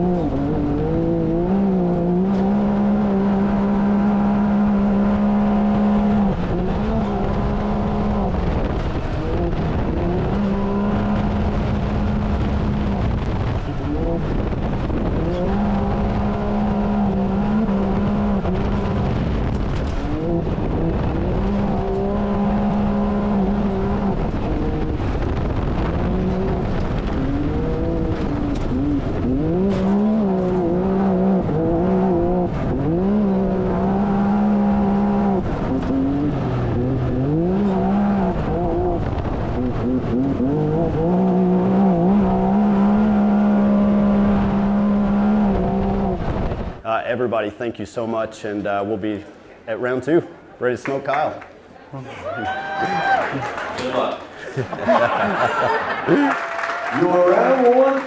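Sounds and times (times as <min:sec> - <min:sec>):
engine racing at full throttle: 0:00.0 - 0:46.8, 0:54.7 - 0:58.0
wind noise: 0:00.0 - 0:47.0
dirt noise: 0:00.0 - 0:47.8.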